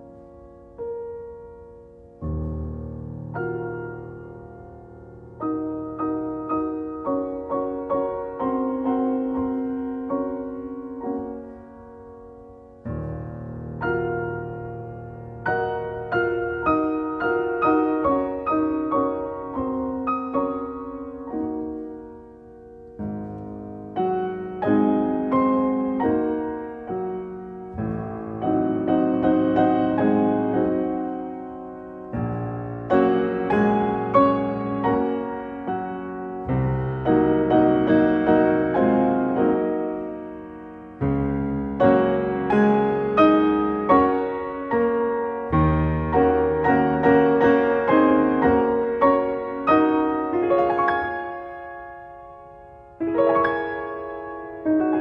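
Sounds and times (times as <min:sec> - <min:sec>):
slow solo piano: 0:00.0 - 0:55.0.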